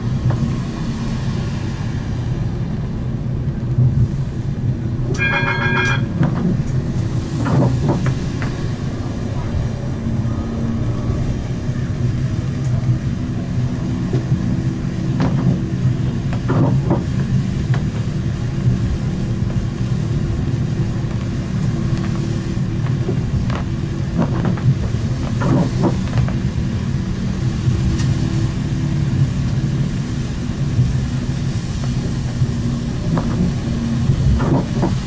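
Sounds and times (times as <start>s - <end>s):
tram wheels rumbling on rail: 0.0s - 35.0s.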